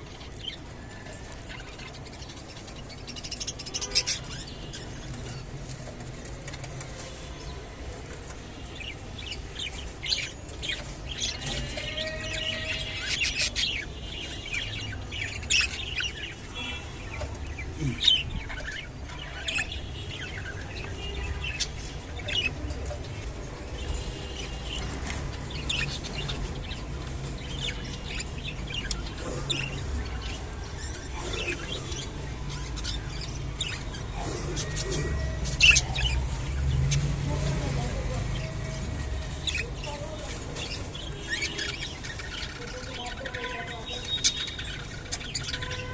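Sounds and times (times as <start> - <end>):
budgerigars chirping and warbling: 0.1 - 6.6, 8.0 - 45.9.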